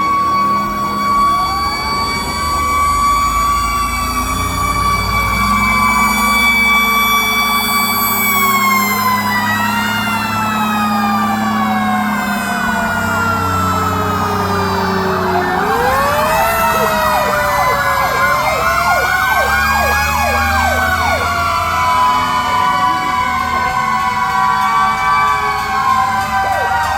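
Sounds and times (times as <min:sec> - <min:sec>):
fast warbling siren: 0:00.0 - 0:26.9
fire truck sirens: 0:00.0 - 0:26.9
truck engines running: 0:00.0 - 0:26.9.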